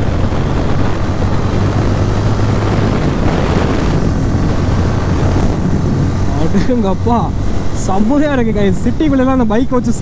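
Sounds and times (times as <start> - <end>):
motorcycle engine accelerating: 0.0 - 10.0
wind rushing over microphone: 0.0 - 10.0.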